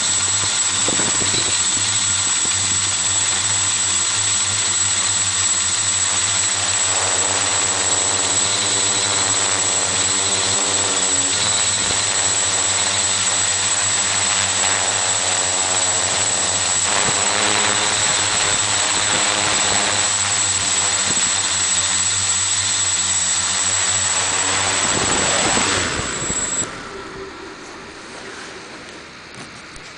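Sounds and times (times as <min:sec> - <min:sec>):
drone motors and propellers buzzing: 0:00.0 - 0:29.9
high motor whine: 0:00.0 - 0:29.9.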